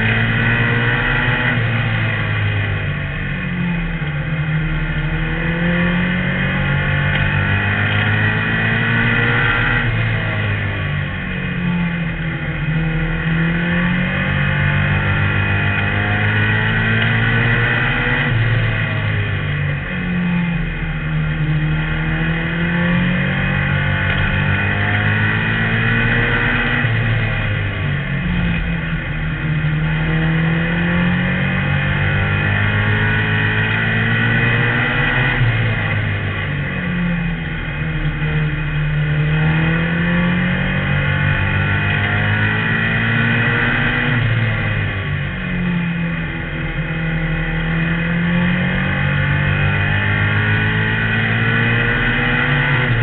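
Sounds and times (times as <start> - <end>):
race car engine accelerating: 0.0 - 53.0.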